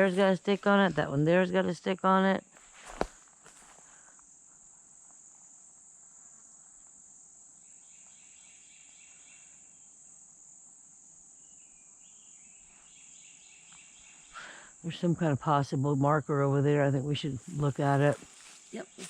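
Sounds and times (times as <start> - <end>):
high-pitched insect chorus: 0.0 - 19.0
lower pulsing insect call: 0.0 - 19.0.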